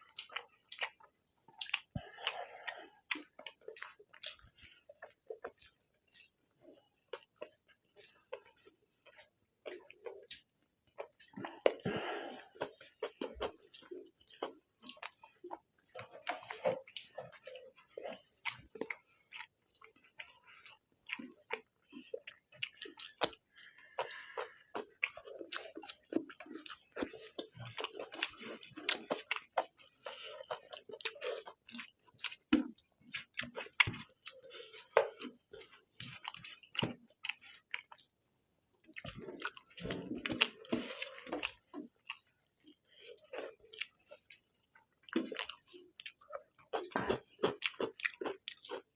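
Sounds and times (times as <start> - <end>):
people chewing with mouth noises: 0.0 - 48.9.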